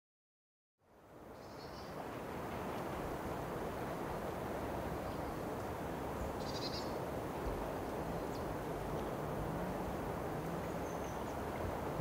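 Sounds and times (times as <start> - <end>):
low outdoor background noise: 0.8 - 12.0.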